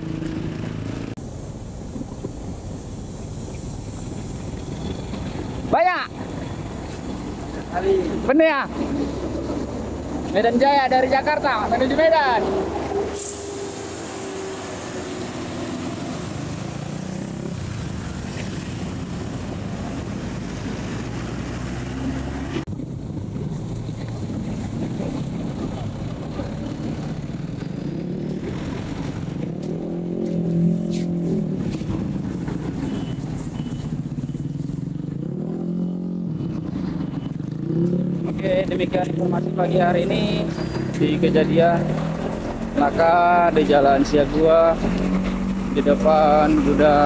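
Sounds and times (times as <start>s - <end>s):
diesel bus and truck engines: 0.0s - 47.0s.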